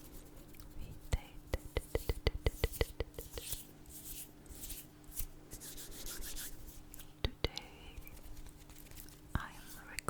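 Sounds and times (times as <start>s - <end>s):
hands rubbing: 0.0s - 7.1s, 8.0s - 9.9s.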